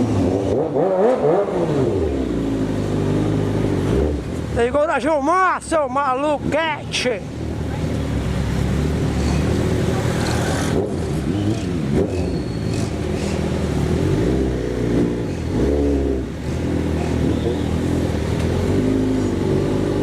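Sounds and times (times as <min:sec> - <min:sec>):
vehicle engine revving: 0:00.0 - 0:04.8, 0:07.5 - 0:20.0.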